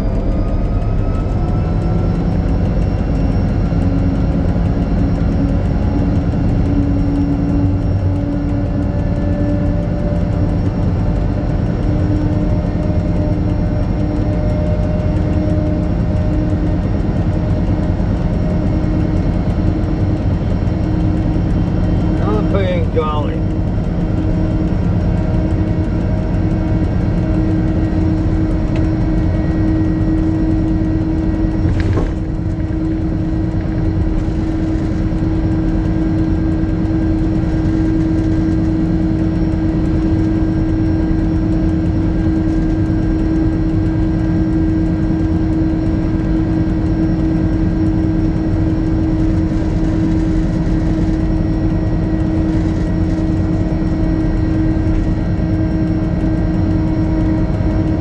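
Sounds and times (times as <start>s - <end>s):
diesel locomotive engine droning: 0.0s - 58.0s.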